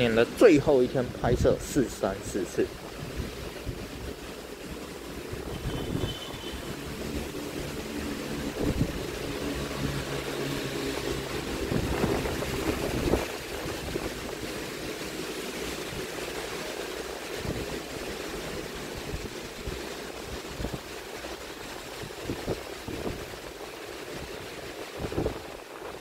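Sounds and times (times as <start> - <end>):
rain: 0.0 - 26.0
wind: 0.0 - 26.0.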